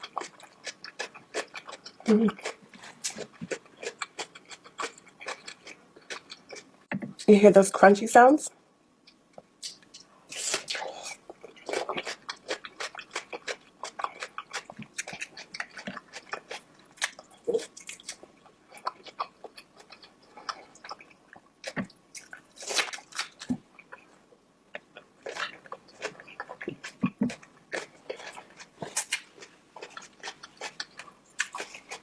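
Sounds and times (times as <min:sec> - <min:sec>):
chewing and crunching: 0:00.0 - 0:06.7, 0:09.6 - 0:32.0.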